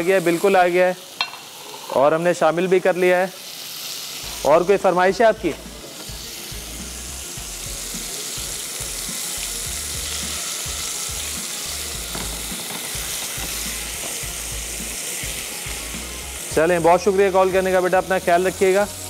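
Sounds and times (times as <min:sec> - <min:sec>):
food sizzling in pans: 0:00.0 - 0:19.0.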